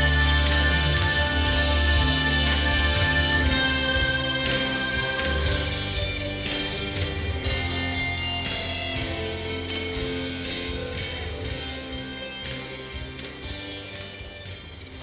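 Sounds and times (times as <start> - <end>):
guitar music with regular pulse: 0.0 - 15.0.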